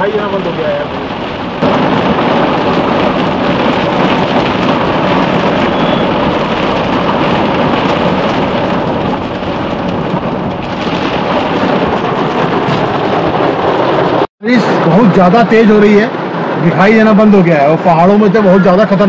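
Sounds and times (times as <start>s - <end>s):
heavy rain and hail on car roof: 0.0s - 19.0s.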